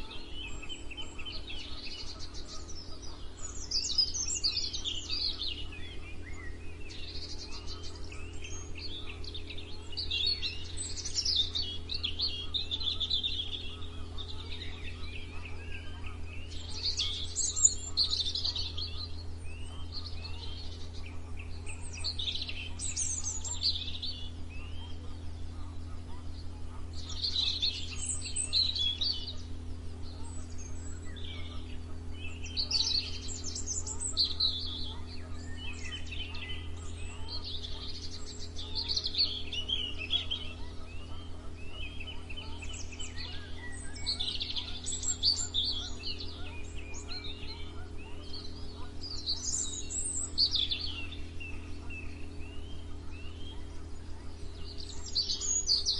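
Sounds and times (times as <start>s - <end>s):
songbirds singing and chirping: 0.0s - 55.9s
steady low hum: 0.0s - 55.9s.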